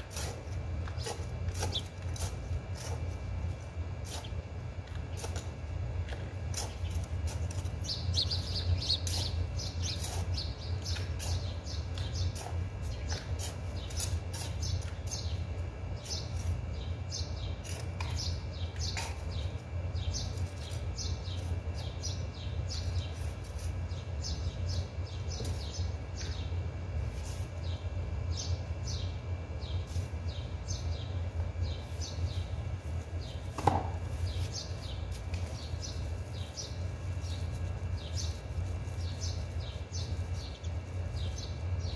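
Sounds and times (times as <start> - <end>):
small birds chirping: 0.0 - 41.9
steady low hum: 0.0 - 41.9.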